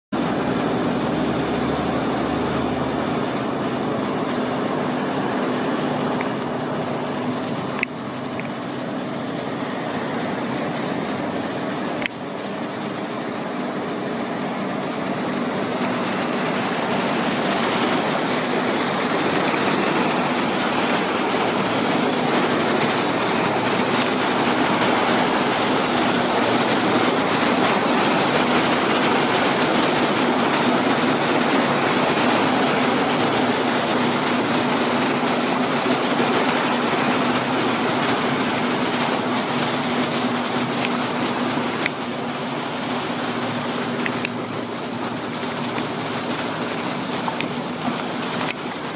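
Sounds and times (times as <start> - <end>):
motorboat engine humming: 0.2 - 48.9
rushing water: 0.2 - 48.9.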